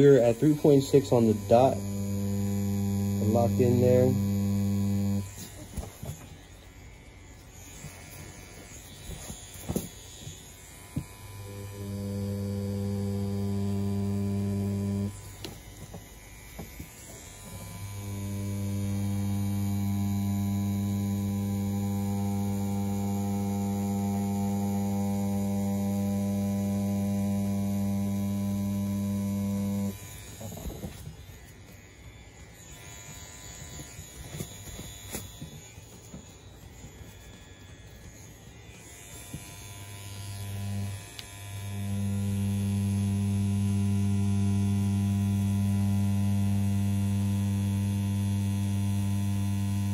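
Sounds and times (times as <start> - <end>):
tattoo pen buzzing: 0.0 - 49.9.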